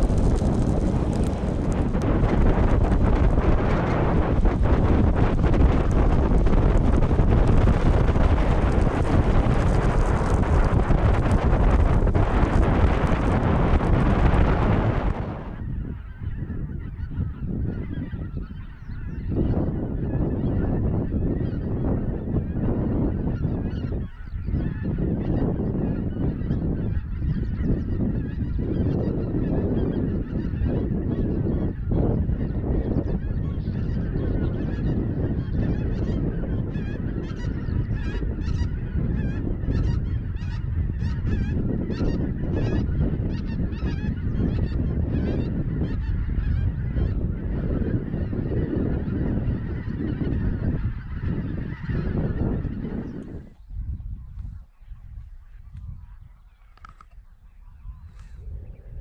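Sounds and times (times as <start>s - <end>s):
geese honking: 0.0s - 53.6s.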